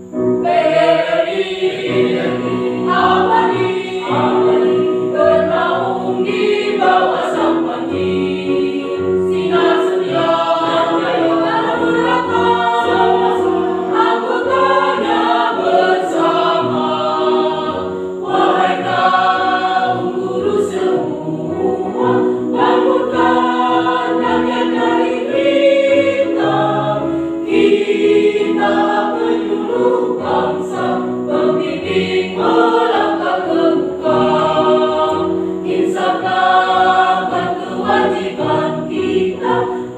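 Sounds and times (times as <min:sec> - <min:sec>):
mixed choir singing in harmony: 0:00.0 - 0:39.9.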